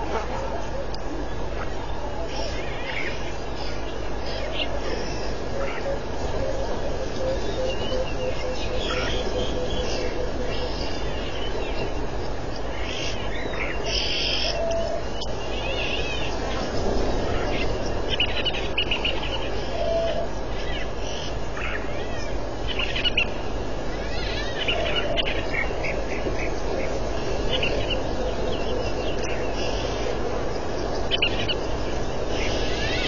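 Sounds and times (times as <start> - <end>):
background hiss: 0.0 - 33.0
birds chirping and trilling: 0.0 - 33.0.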